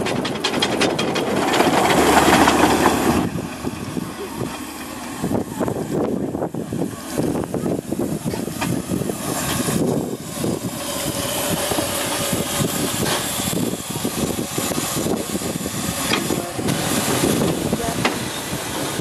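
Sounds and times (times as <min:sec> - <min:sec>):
steam hissing: 0:00.0 - 0:19.0
steam locomotive running: 0:00.0 - 0:19.0.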